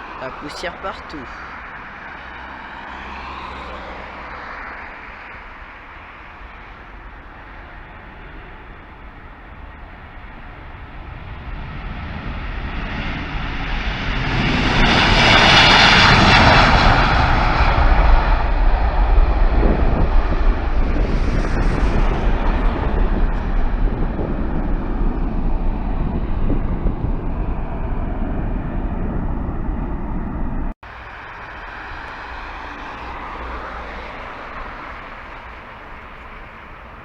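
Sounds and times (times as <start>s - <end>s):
airliner engine whine: 0.0s - 37.0s.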